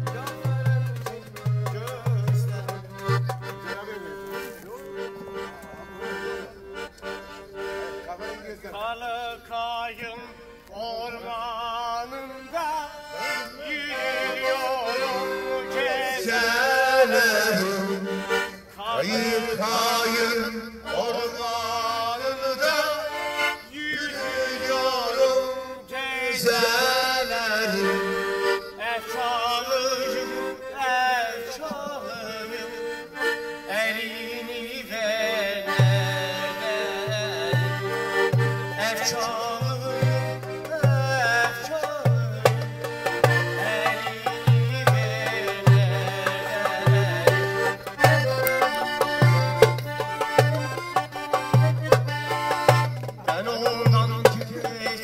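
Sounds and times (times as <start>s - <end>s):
man singing: 0.0s - 6.5s, 7.8s - 55.0s
accordion folk tune: 0.0s - 55.0s.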